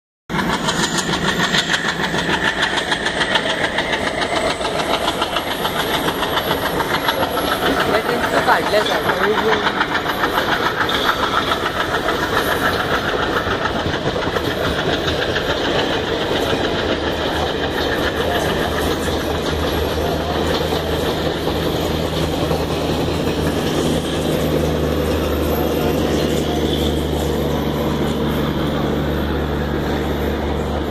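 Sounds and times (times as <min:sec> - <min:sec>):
diesel locomotive chugging: 0:00.3 - 0:30.9
train wheels clattering on rails: 0:00.3 - 0:30.9.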